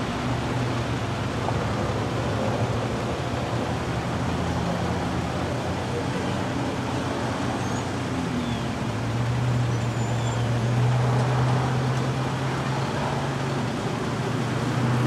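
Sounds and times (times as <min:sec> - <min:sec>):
cars driving over railroad tracks: 0:00.0 - 0:15.0
engine hum: 0:00.0 - 0:15.0.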